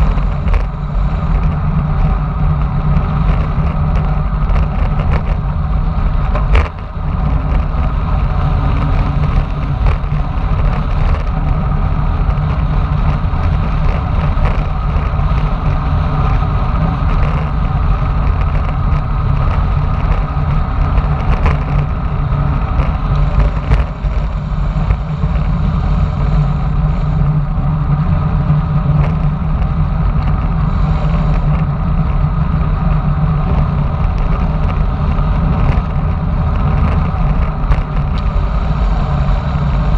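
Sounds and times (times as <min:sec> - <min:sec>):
road rumble: 0:00.0 - 0:39.9
wind rushing over microphone: 0:00.0 - 0:39.9.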